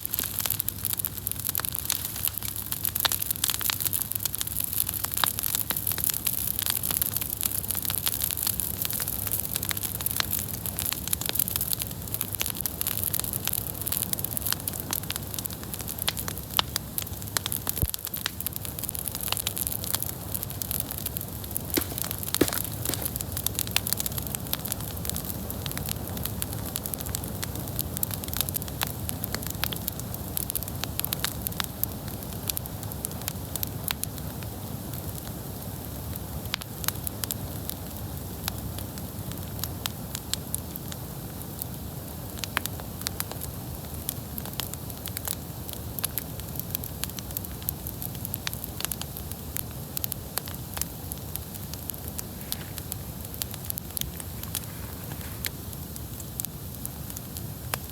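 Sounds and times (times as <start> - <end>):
bonfire crackling and popping: 0.0 - 57.9.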